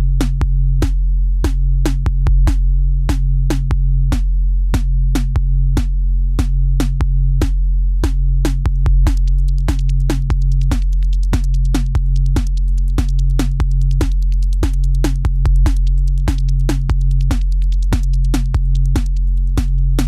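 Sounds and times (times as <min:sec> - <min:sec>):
drum machine beat: 0:00.0 - 0:20.0
hi-hat ticks: 0:00.0 - 0:20.0
steady bass line: 0:00.0 - 0:20.0.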